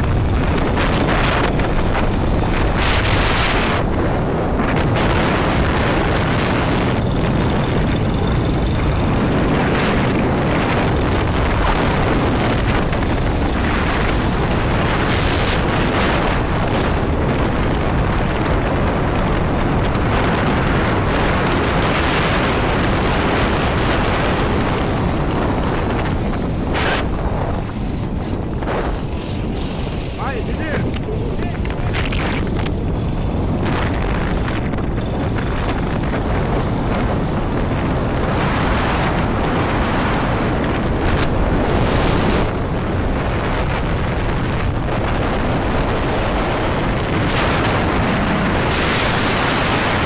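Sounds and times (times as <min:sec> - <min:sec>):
motorbike running: 0:00.0 - 0:50.0
wind buffeting microphone: 0:00.0 - 0:50.0.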